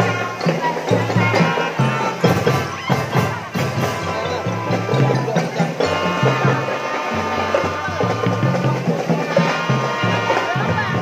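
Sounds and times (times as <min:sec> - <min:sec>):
drum band playing: 0:00.0 - 0:11.0.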